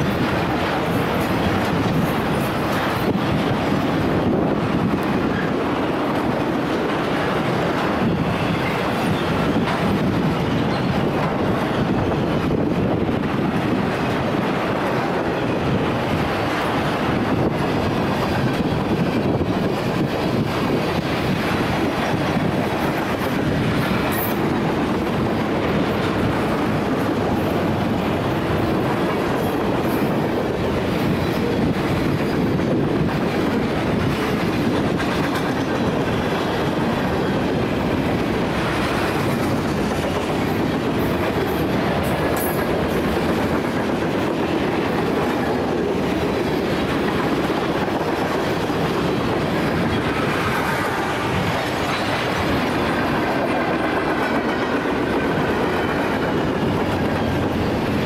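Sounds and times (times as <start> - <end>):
train wheels rumbling on rail: 0.0 - 58.0
wheels clickety-clack: 0.0 - 58.0.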